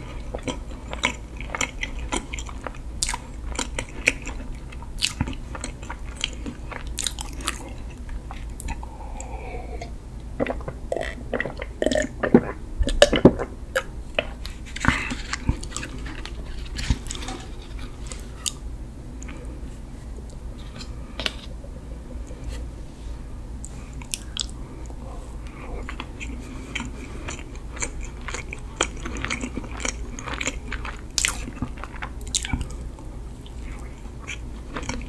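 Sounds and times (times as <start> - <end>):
chewing cake: 0.0 - 18.6, 24.0 - 35.0.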